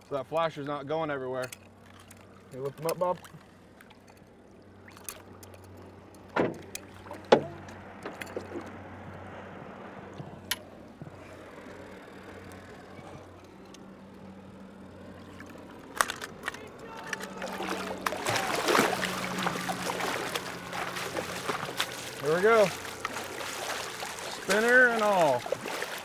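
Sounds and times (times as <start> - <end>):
boat motor humming: 0.0 - 26.0
water sloshing: 1.4 - 26.0.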